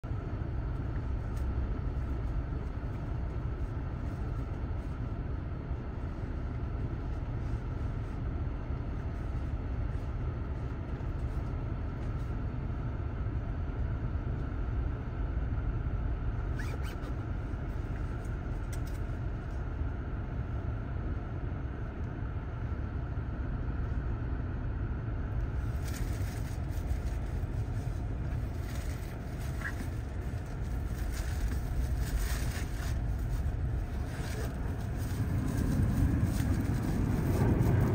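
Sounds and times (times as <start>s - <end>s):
jet airliner rumble: 0.0s - 37.9s.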